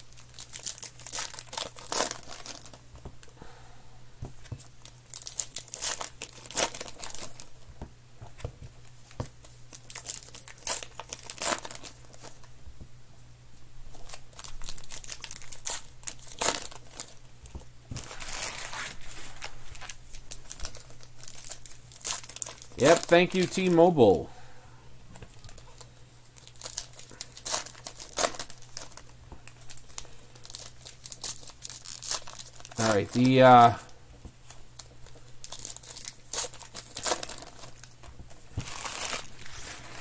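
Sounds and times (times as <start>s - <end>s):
wrappers crinkling and tearing: 0.0s - 3.3s, 4.7s - 7.6s, 9.0s - 12.5s, 13.9s - 17.2s, 17.9s - 24.0s, 25.2s - 40.0s
low steady hum: 0.0s - 40.0s.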